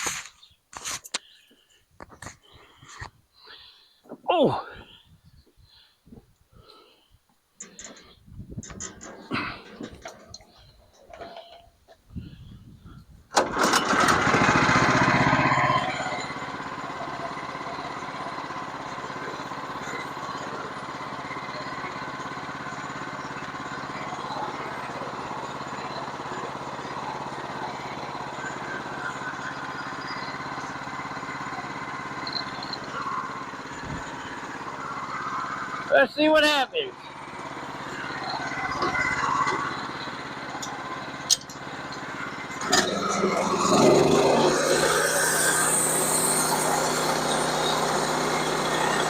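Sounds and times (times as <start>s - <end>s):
small engine starting and idling: 0.0s - 5.0s, 7.6s - 49.0s.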